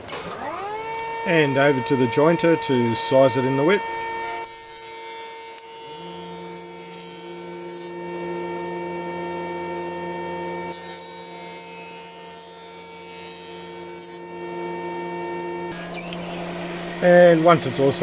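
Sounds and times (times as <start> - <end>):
jointer humming: 0.0 - 18.0
wood cutting passes: 0.0 - 18.0.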